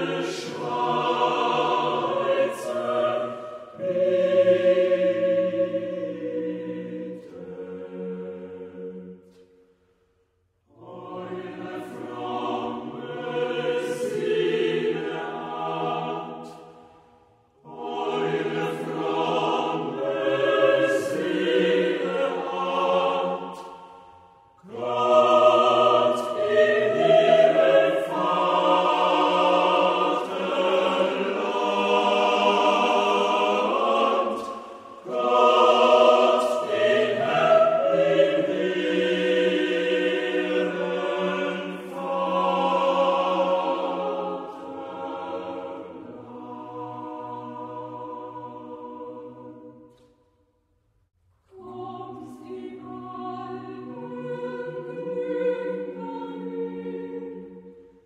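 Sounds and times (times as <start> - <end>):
choir singing: 0.0 - 50.4, 51.5 - 58.0.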